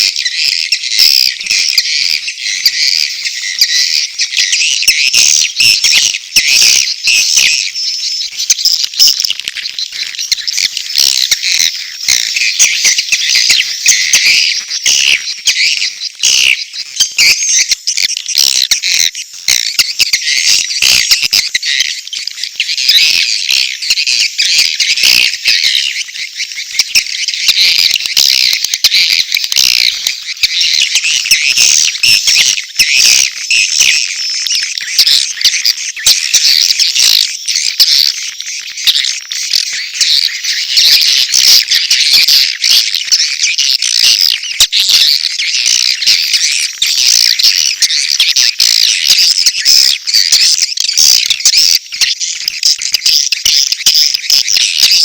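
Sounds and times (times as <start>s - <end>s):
swiftlets chirping and twittering: 0.0s - 55.0s.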